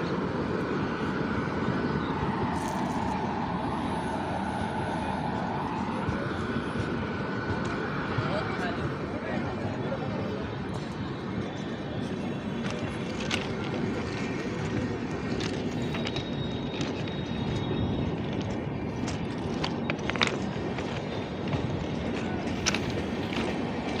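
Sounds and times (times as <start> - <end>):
train wheels rumbling on track: 1.6 - 24.0.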